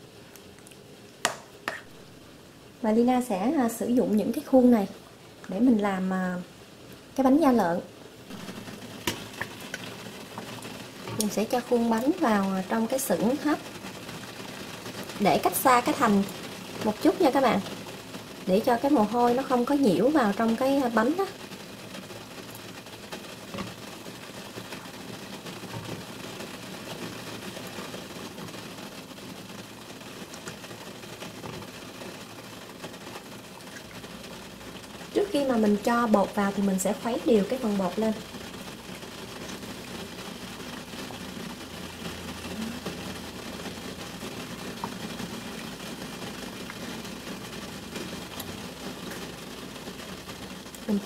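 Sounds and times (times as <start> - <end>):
steamer pot hissing: 7.8 - 51.0.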